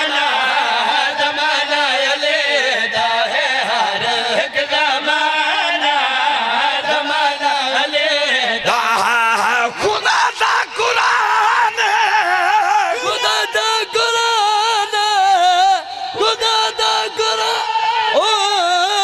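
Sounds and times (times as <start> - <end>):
man singing through loudspeakers: 0.0 - 19.0.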